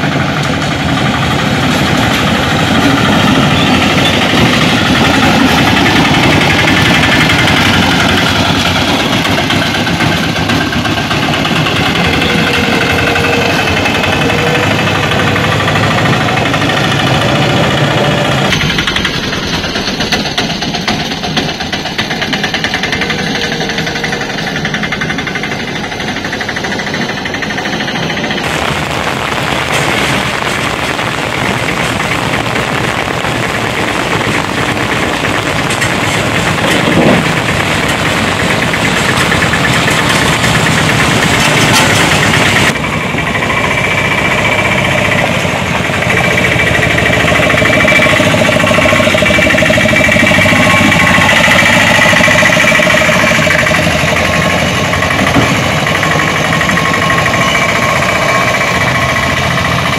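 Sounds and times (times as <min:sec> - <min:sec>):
autorickshaw engines running: 0:00.0 - 0:59.9
wheels splashing through potholes: 0:00.0 - 0:59.9.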